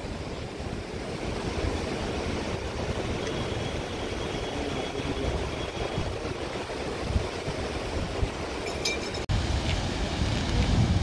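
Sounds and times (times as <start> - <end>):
road traffic: 0.0 - 11.0
wind on microphone: 0.0 - 11.0.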